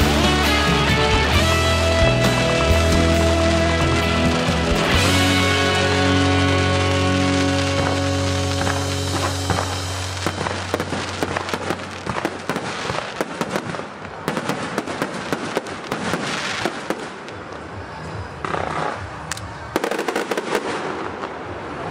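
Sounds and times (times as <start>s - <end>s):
firecrackers crackling and banging: 0.0s - 21.9s.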